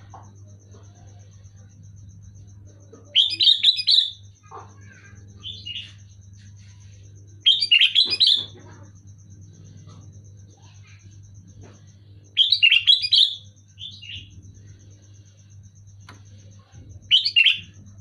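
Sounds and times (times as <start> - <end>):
bird chirping: 0.0 - 15.8, 16.4 - 17.9
steady low hum: 0.0 - 18.0.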